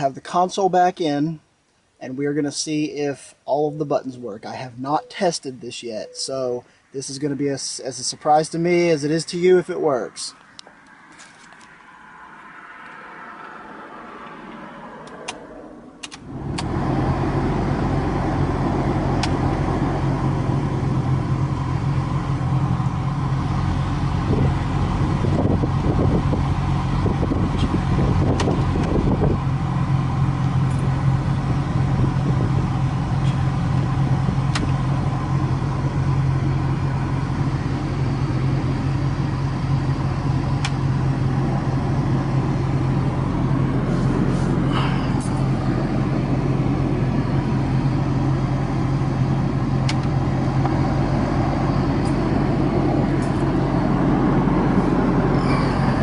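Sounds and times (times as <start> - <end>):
car engine starting and idling: 0.0 - 56.0.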